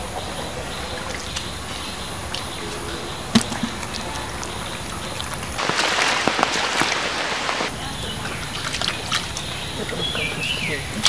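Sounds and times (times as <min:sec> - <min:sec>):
watery patter and drips: 0:00.2 - 0:11.0.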